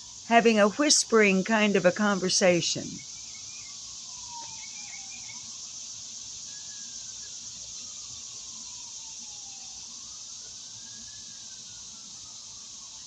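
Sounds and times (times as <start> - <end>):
chorus of insects: 0.0 - 13.0.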